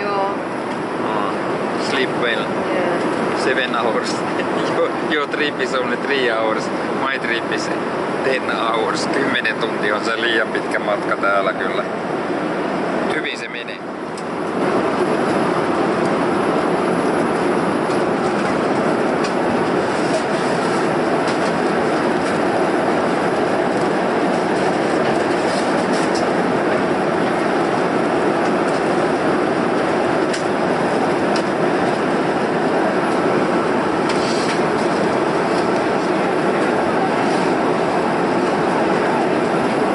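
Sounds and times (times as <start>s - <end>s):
airliner engines and airflow rushing: 0.0s - 39.9s.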